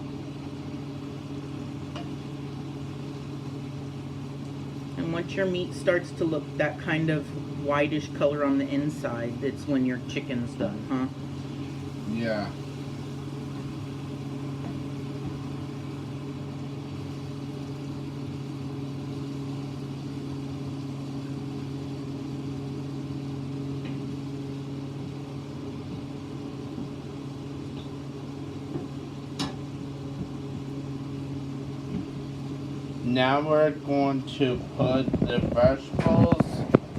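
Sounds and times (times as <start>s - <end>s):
fan motor humming: 0.0s - 36.9s.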